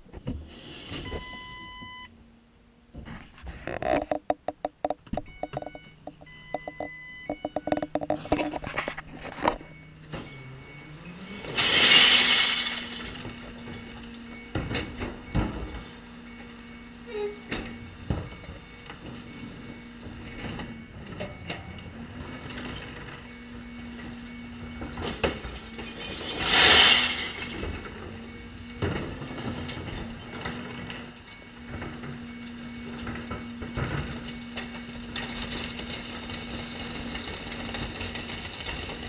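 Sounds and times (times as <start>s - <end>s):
garbage truck engine: 4.1s - 39.0s.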